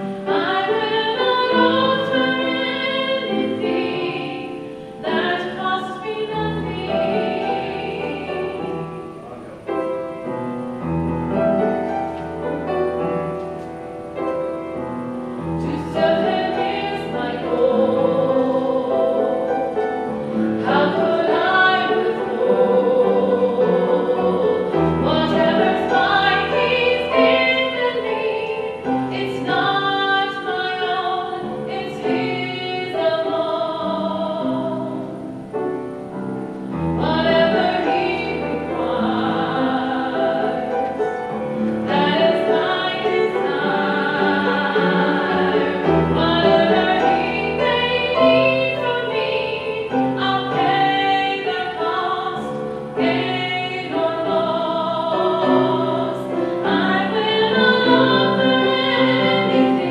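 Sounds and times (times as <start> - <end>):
woman singing with vibrato: 0.0 - 9.2, 15.4 - 35.5, 36.9 - 59.9
upright piano: 0.0 - 59.9.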